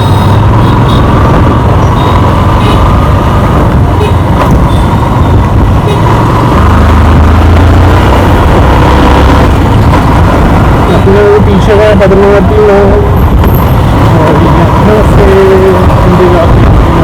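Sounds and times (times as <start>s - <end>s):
motorcycle engine drone: 0.0s - 17.0s
wind rushing over microphone: 0.0s - 17.0s.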